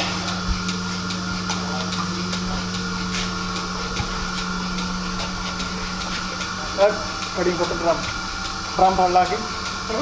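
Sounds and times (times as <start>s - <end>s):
electric machinery hum: 0.0s - 10.0s.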